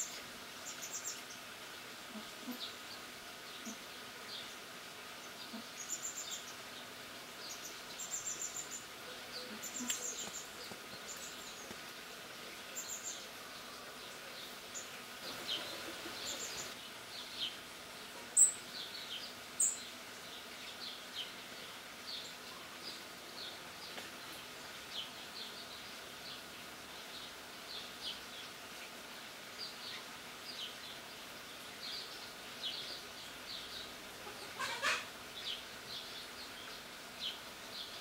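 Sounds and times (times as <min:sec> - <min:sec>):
small birds chirping: 0:00.0 - 0:01.5, 0:02.1 - 0:38.0.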